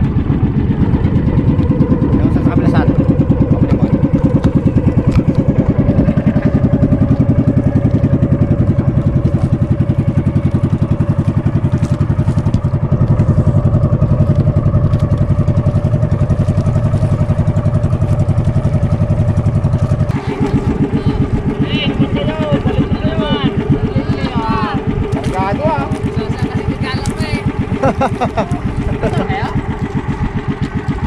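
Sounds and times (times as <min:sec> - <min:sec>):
motor boat engine running: 0:00.0 - 0:31.0.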